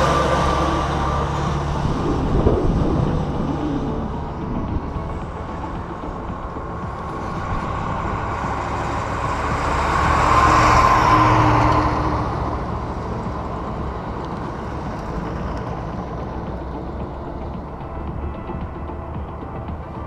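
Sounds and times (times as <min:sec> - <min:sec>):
vehicle passing on highway: 0:00.0 - 0:20.0.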